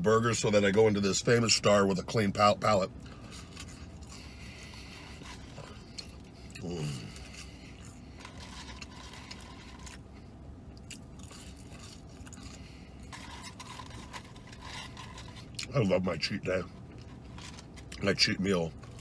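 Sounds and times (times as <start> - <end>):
low hum inside vehicle cabin: 0.0 - 19.0
man chewing fries: 0.3 - 19.0.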